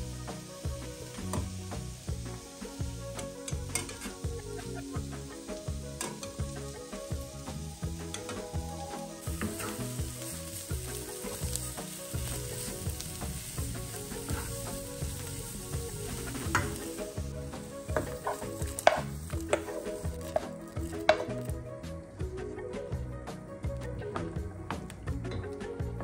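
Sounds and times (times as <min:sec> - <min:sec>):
vegetables sizzling in a pan: 0:00.0 - 0:21.6.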